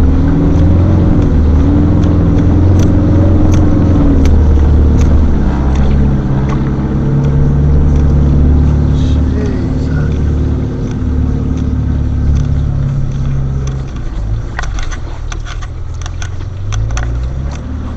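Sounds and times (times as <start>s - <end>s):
engine droning low: 0.0s - 17.9s
sharp clicks and knocks: 0.0s - 17.9s
water rushing along vehicle: 0.0s - 17.9s.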